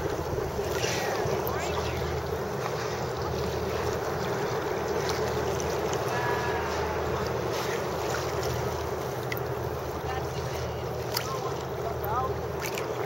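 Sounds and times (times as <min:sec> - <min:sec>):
water lapping around kayak: 0:00.0 - 0:13.0.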